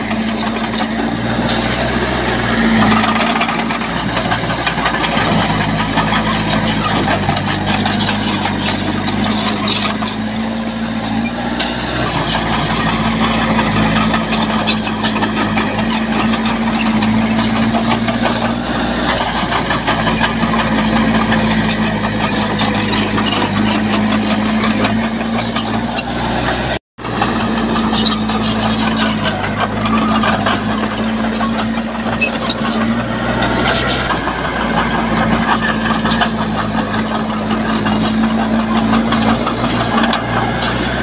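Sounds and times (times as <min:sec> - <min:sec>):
diesel machinery engine running: 0:00.0 - 0:41.0.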